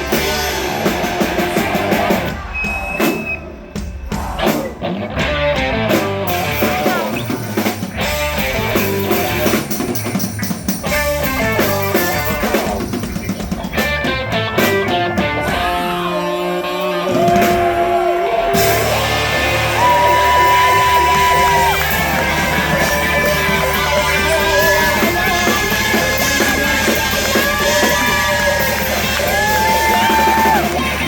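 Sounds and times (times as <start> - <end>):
drum kit beat: 0.0 - 31.0
live rock band playing: 0.0 - 31.0
electric guitar: 4.2 - 31.0.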